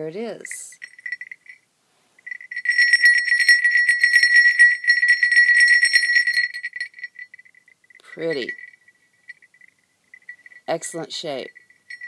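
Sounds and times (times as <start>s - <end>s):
sleigh bell jingling: 0.0s - 12.0s.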